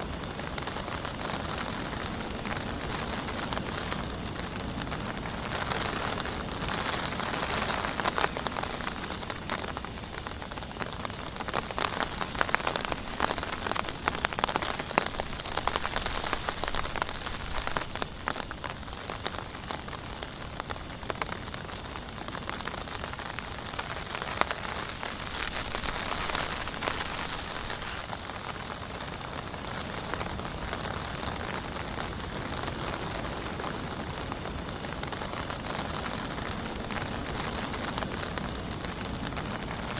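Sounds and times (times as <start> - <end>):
heavy rain falling: 0.0 - 39.9
raindrops hitting a surface: 0.0 - 39.9.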